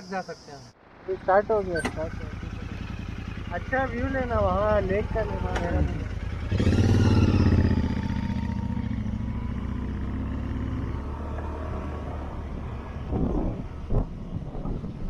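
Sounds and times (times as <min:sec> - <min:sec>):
motorcycle engine running: 0:01.1 - 0:13.7.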